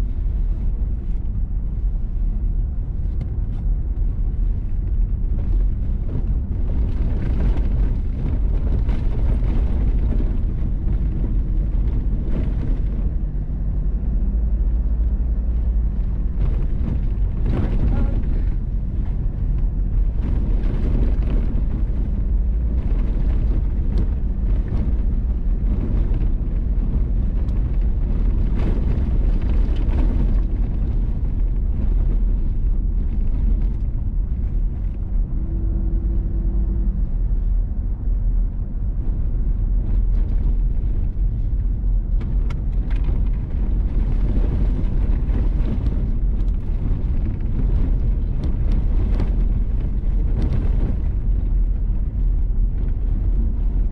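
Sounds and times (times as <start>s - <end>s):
vehicle rumbling on gravel: 0.0s - 53.9s.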